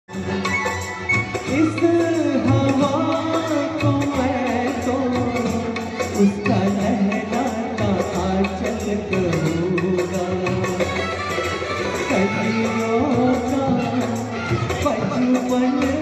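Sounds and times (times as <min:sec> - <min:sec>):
instrumental accompaniment: 0:00.1 - 0:16.0
man singing into microphone: 0:00.1 - 0:16.0.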